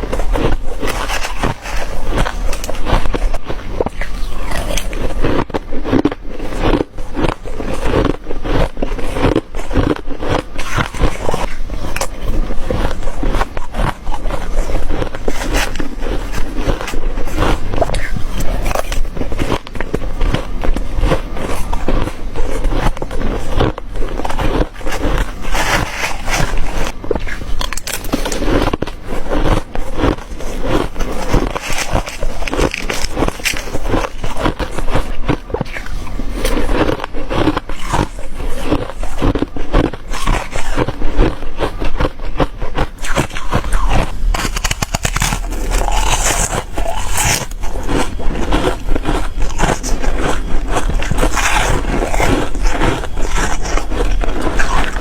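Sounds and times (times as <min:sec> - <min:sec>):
ice being crunched: 0:00.0 - 0:55.0.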